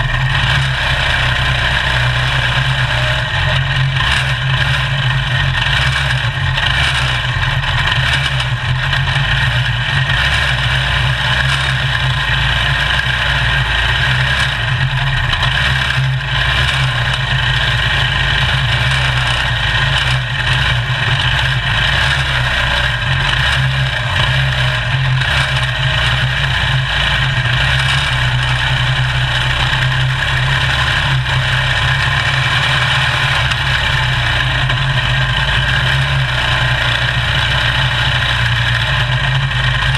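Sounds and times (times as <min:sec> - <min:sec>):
single-cylinder racing engine running hard: 0:00.0 - 0:39.9.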